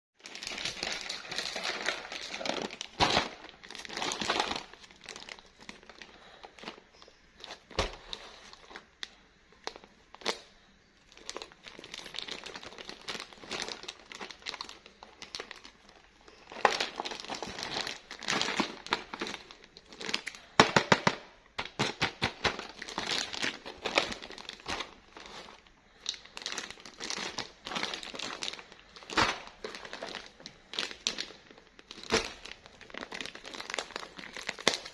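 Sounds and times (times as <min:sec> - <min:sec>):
plastic packaging crinkling: 0:00.2 - 0:34.9.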